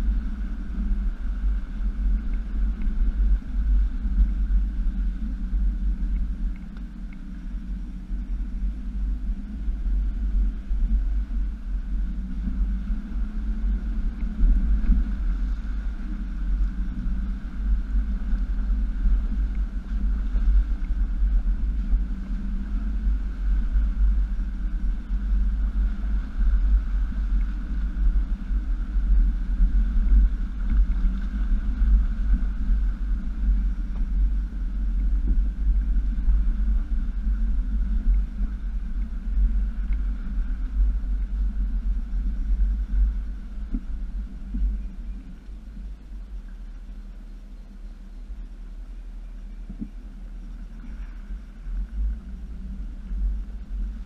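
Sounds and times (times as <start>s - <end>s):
off-road vehicle engine rumble: 0.0s - 54.0s.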